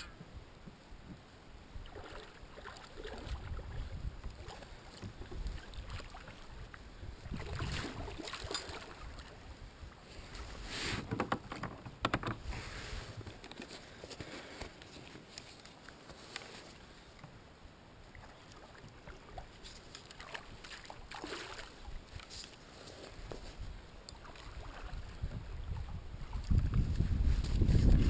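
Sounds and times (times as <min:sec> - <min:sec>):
water sloshing against kayak: 0:00.0 - 0:11.6, 0:12.2 - 0:28.0.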